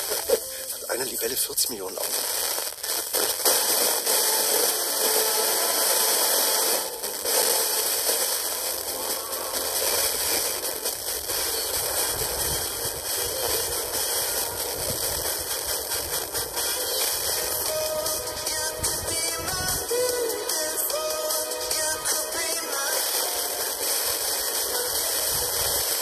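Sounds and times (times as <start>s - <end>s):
radio static hiss: 0.0s - 26.0s
static crackles: 0.0s - 26.0s.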